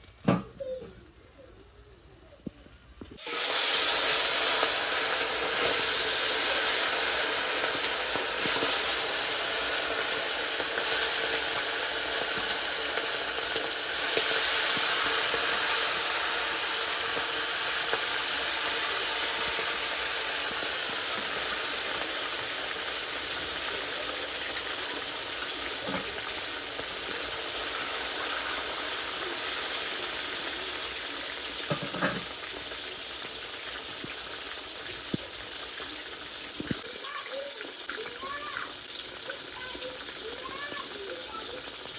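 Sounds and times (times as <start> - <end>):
food deep-frying in oil: 2.4 - 41.9.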